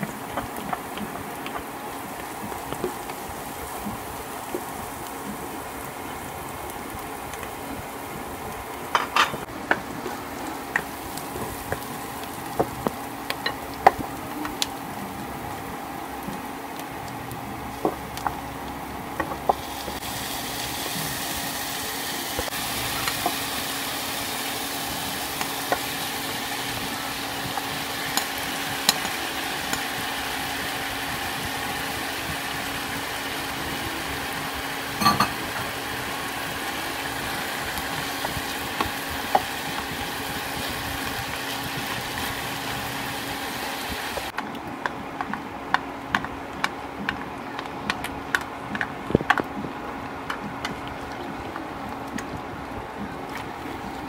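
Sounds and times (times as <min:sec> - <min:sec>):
meat sizzling in frying pan: 0:00.0 - 0:44.4.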